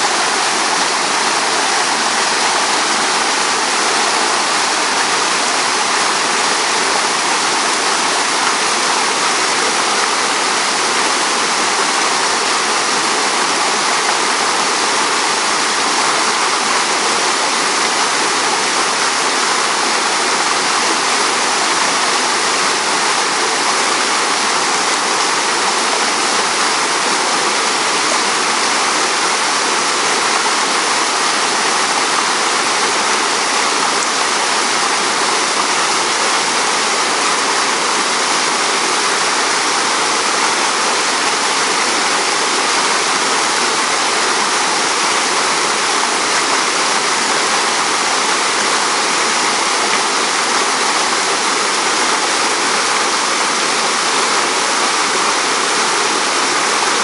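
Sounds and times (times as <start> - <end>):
stream rushing over boulders: 0.0 - 57.0.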